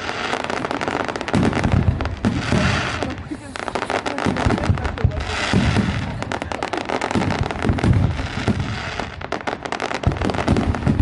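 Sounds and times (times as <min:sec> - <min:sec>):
fireworks crackling and popping: 0:00.0 - 0:11.0
low booms of bursting shells: 0:00.0 - 0:11.0.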